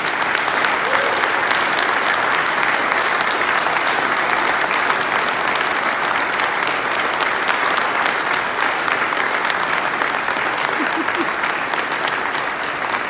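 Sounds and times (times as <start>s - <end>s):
close sharp claps: 0.0s - 13.0s
crowd applauding: 0.0s - 13.0s.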